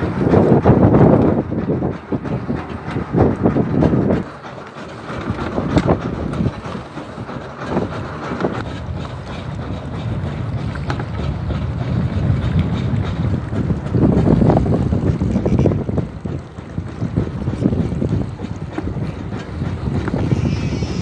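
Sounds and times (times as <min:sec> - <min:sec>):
boat engine rumble: 0:00.0 - 0:21.0
wind buffeting microphone: 0:00.0 - 0:21.0.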